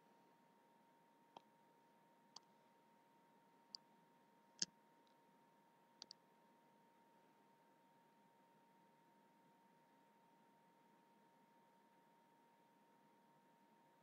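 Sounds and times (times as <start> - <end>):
faint steady tone: 0.0 - 14.0.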